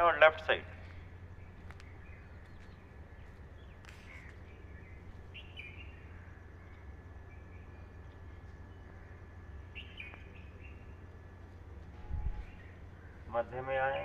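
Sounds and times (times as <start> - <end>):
low background hum: 0.0 - 14.0
faint bird chirps: 0.8 - 14.0.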